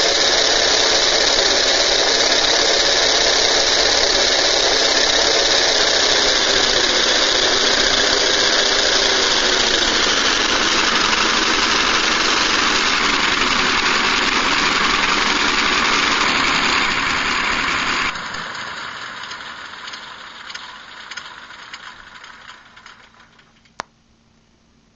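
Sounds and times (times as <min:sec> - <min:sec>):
engine shutdown crackles: 0:00.0 - 0:23.7.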